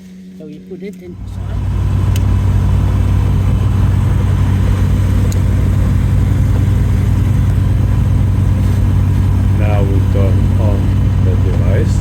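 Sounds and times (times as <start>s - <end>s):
light aircraft engine idling: 1.0s - 12.0s.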